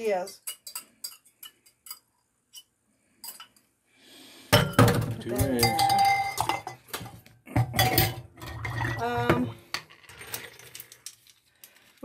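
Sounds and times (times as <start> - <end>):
utensils clinking on steel bowls: 0.0 - 3.6, 4.6 - 11.2.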